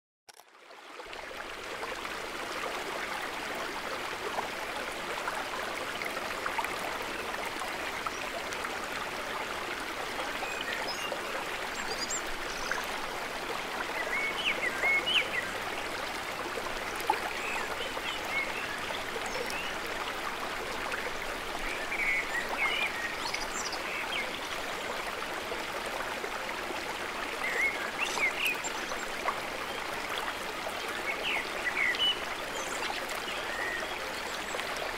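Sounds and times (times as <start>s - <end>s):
stream flowing: 0.4s - 34.9s.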